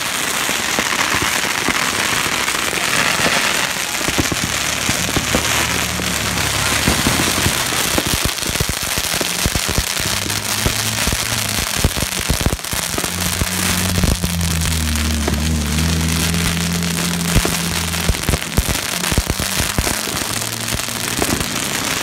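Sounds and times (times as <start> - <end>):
firecrackers crackling: 0.0 - 22.0
loud firecracker bangs: 0.0 - 22.0.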